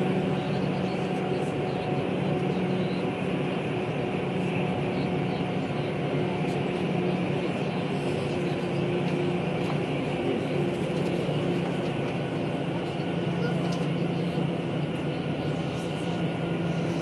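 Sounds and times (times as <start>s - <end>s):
steady train hum: 0.0s - 17.0s
train wheels rumbling on rail: 0.0s - 17.0s.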